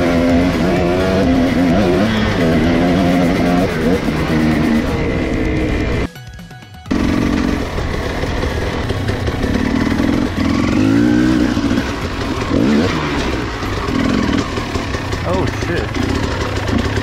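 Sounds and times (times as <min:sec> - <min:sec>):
dirt bike engine revving: 0:00.0 - 0:06.1, 0:06.9 - 0:17.0.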